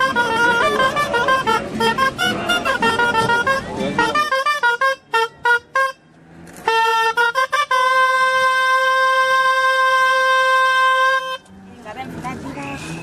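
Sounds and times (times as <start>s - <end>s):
shrill double-reed shawm melody: 0.0s - 11.5s.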